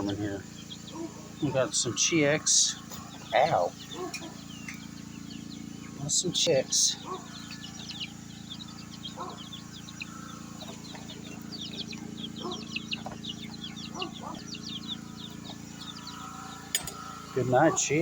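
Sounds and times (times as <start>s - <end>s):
baby chicks peeping: 0.0s - 18.0s
steady low hum: 0.0s - 18.0s.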